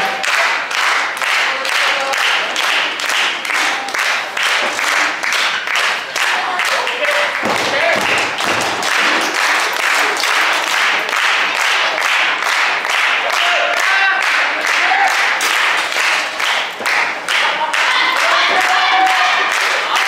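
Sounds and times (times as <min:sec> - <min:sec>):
crowd clapping in rhythm: 0:00.0 - 0:20.0.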